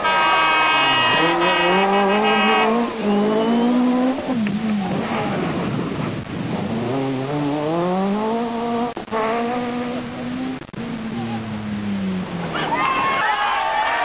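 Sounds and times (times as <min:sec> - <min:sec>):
rally car engine revving: 0:00.7 - 0:12.8.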